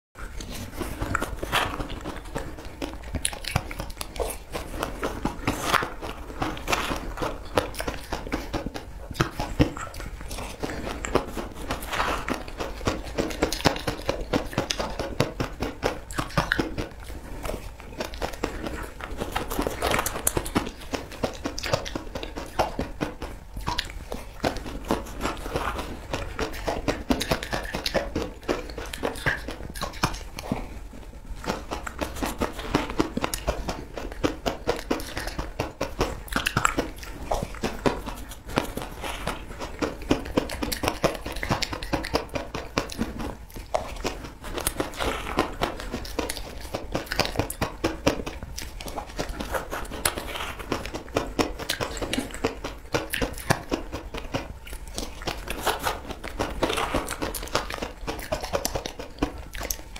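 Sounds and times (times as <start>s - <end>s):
person chewing shaved ice: 0.2s - 59.9s.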